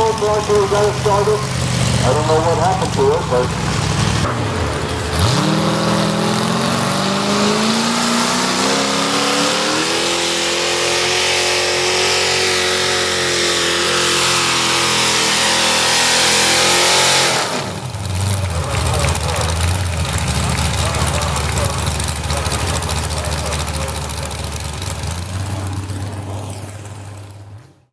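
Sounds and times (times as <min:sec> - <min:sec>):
tractor engine revving: 0:00.0 - 0:27.7.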